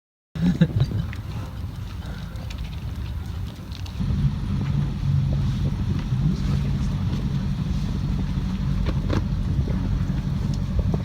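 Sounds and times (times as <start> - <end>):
boat engine droning: 1.3 - 11.0.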